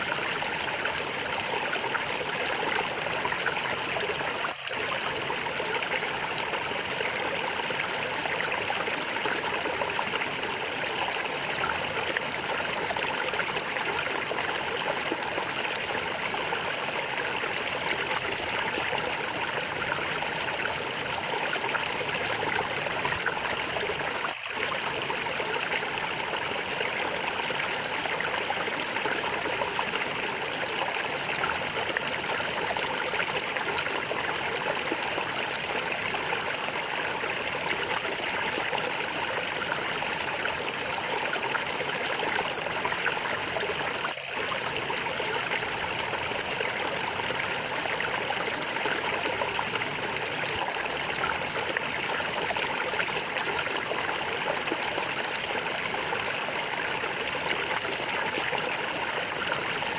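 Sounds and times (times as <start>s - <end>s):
stream water gurgling: 0.0s - 59.9s.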